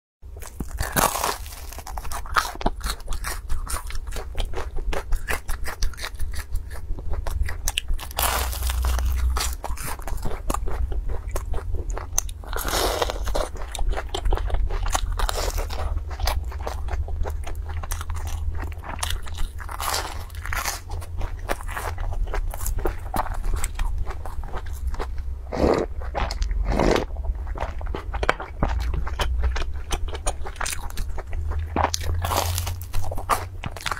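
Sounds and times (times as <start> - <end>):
crunching and chewing fried dough: 0.2 - 33.9.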